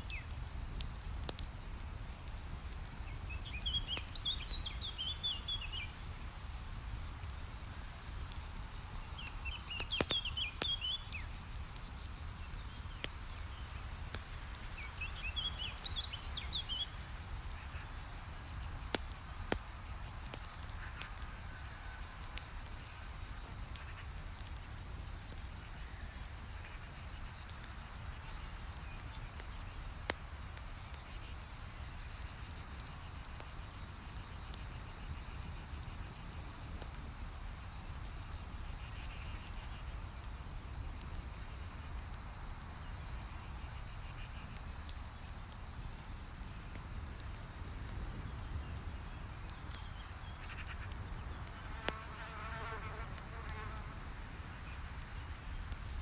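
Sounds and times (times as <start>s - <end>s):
insects hissing: 0.0s - 56.0s
wood fire crackling and popping: 0.0s - 56.0s.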